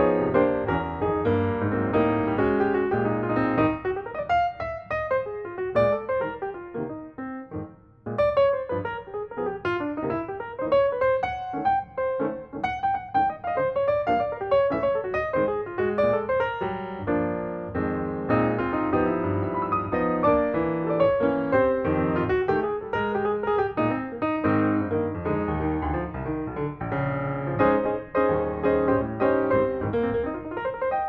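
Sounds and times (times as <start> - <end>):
piano melody: 0.0 - 31.0.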